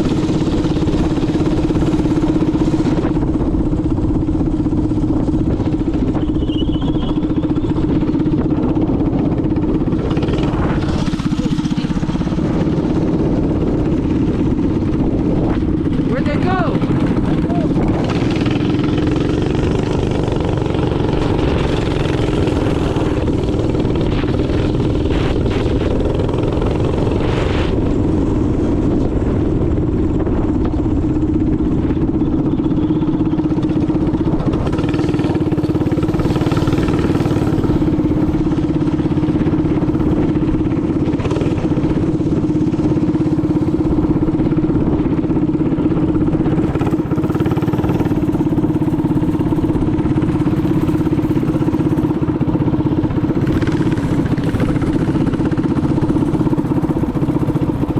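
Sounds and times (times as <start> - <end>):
minibike engine running: 0.0 - 57.9.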